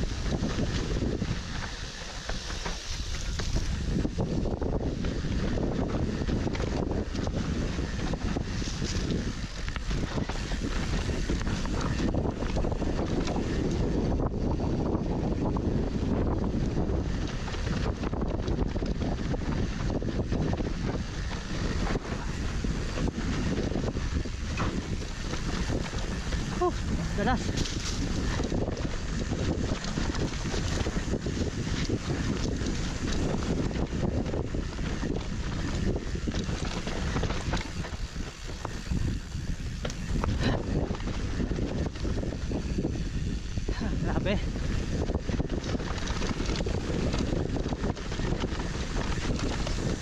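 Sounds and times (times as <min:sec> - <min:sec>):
bike rattling and knocking: 0:00.0 - 0:50.0
tyre and trail rumble: 0:00.0 - 0:50.0
wind rushing over microphone: 0:00.0 - 0:50.0.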